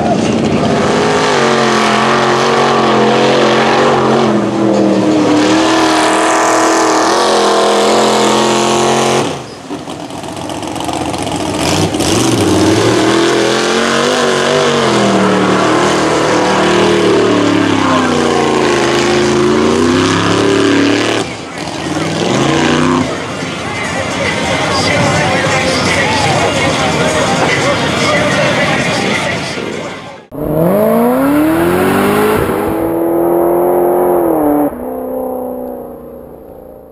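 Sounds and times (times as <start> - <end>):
truck engine revving: 0.0 - 29.5, 30.2 - 36.9.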